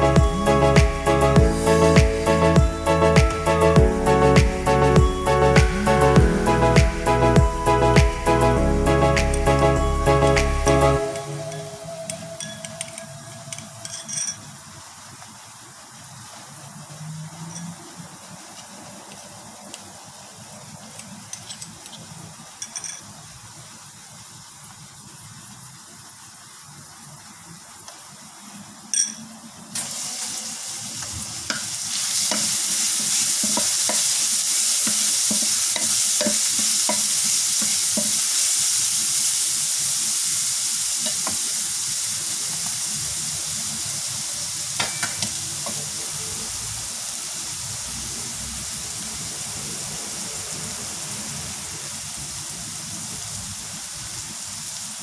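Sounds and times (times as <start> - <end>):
aromatics sizzling in hot oil: 0.0 - 55.0.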